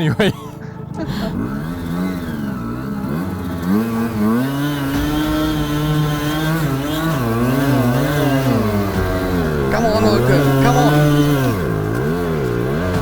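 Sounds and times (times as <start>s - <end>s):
two-stroke motorcycle engine revving: 1.3s - 13.0s.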